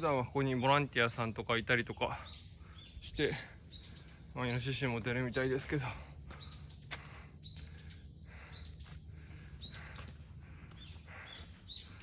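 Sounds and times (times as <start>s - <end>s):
faint outdoor background noise: 0.0s - 12.0s
bird high chirps: 1.9s - 12.0s.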